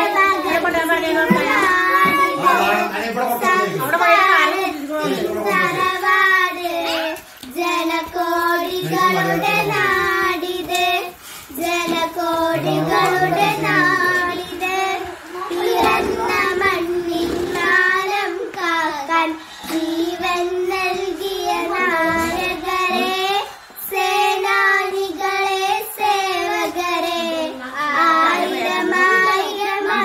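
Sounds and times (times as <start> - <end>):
girls singing together: 0.0 - 30.0.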